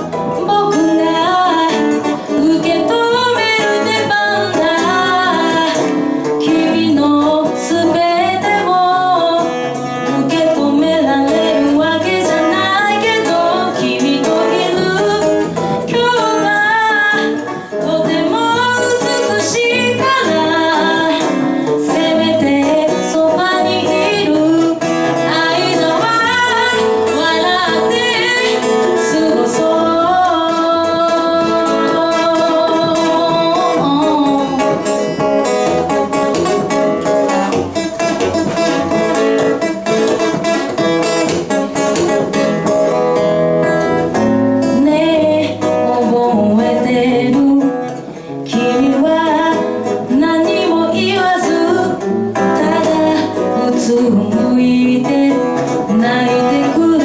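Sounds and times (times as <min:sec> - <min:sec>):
woman singing into microphone: 0:00.0 - 0:42.8, 0:43.7 - 0:57.0
strummed acoustic guitar: 0:00.0 - 0:57.0.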